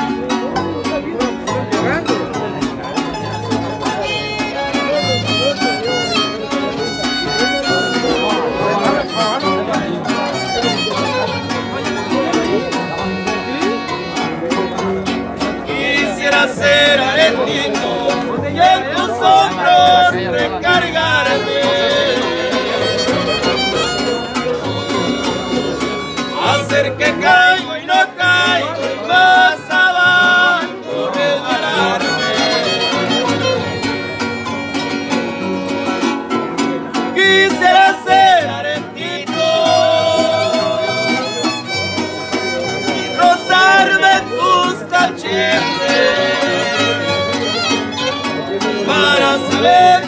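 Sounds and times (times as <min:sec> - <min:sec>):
strummed small guitar: 0:00.0 - 0:50.0
violin melody: 0:00.0 - 0:50.0.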